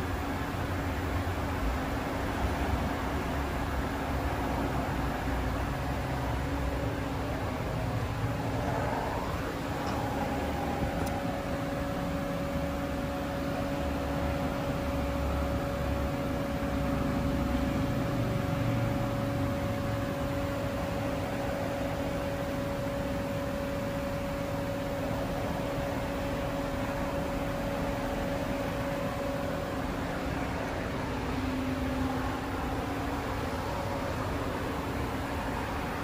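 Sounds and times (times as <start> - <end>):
machining center humming and whining: 0.0 - 36.0.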